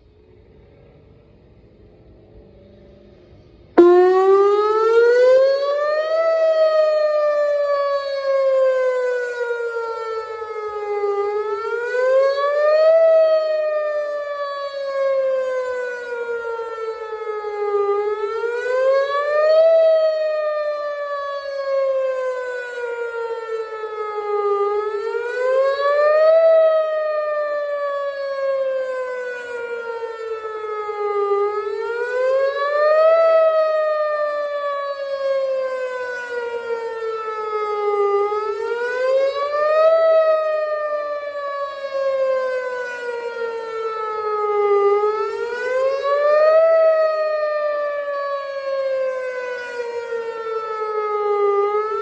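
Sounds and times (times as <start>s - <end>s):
electronic warning siren wailing: 3.8s - 52.0s.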